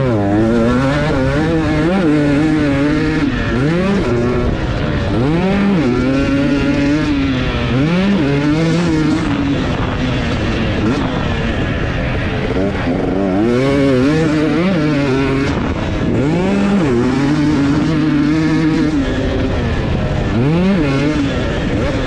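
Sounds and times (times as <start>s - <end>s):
motocross bike engine revving: 0.0s - 22.0s.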